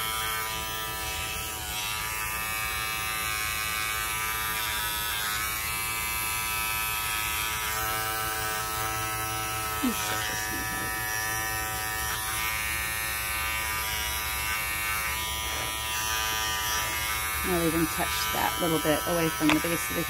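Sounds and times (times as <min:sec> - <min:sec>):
electric clippers buzzing: 0:00.0 - 0:20.0.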